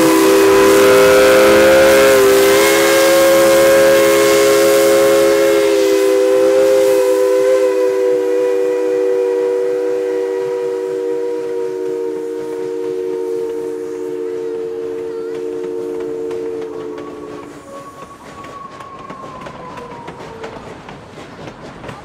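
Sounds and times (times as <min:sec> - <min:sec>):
steam locomotive chime whistle: 0:00.0 - 0:20.6
steam hissing: 0:00.0 - 0:22.0.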